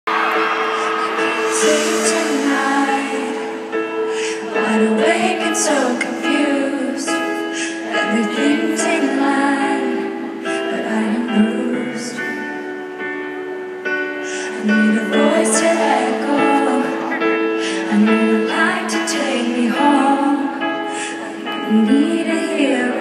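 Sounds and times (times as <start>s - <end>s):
woman singing pop ballad: 0.5s - 12.7s, 14.3s - 23.0s.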